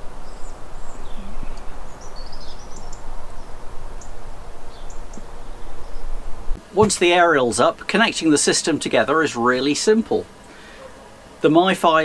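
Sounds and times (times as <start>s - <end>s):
background hiss: 0.0s - 12.0s
small birds chirping: 0.0s - 12.0s.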